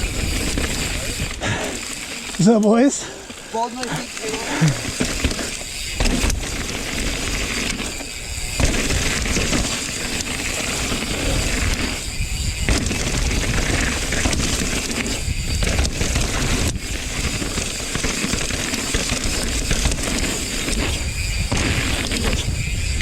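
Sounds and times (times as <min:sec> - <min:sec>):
bike knocking and rattling: 0:00.0 - 0:23.0
bike tyres rumbling on dirt: 0:00.0 - 0:23.0.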